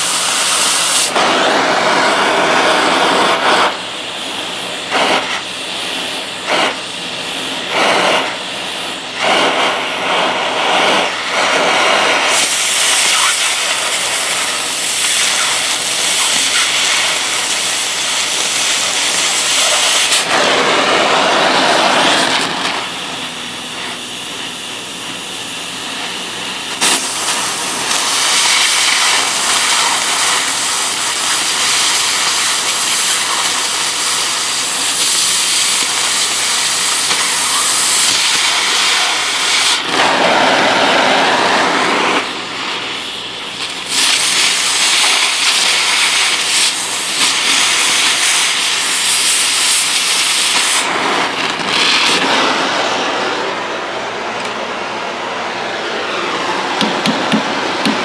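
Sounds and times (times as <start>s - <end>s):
cutting torch flame hissing: 0.0s - 58.0s.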